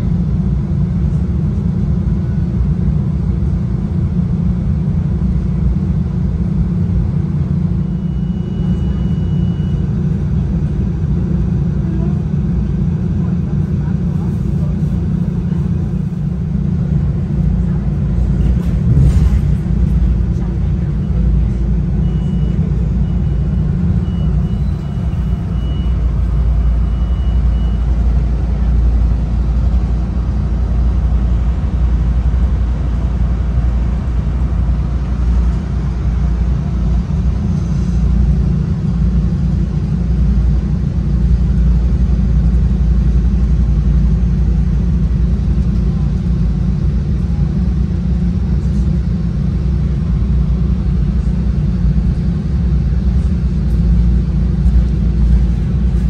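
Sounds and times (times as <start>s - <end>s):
train car rumbling at speed: 0.0s - 56.0s.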